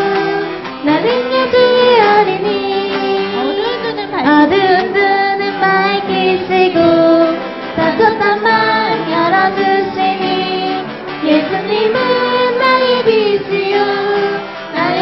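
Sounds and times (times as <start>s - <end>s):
children and woman singing: 0.0s - 15.0s
instrumental accompaniment: 0.0s - 15.0s.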